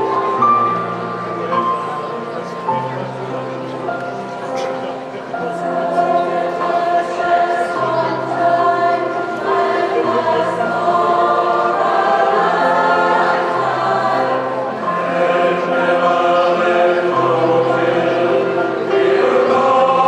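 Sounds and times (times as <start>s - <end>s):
large choir singing in harmony: 0.0s - 20.0s.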